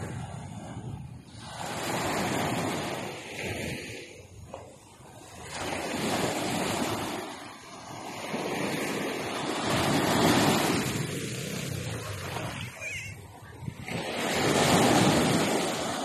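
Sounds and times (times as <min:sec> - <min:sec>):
waves washing in: 0:00.0 - 0:16.0.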